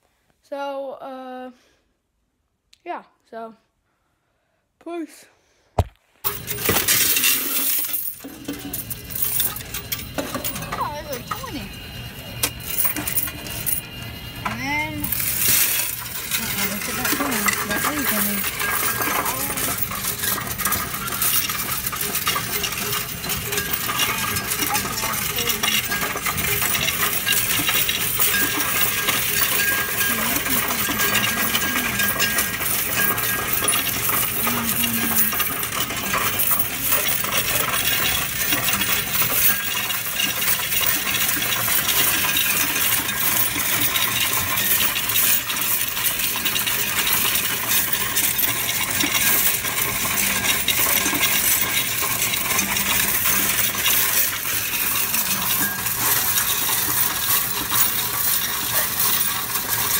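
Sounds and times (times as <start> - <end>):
coins clinking on metal tray: 6.2 - 59.9.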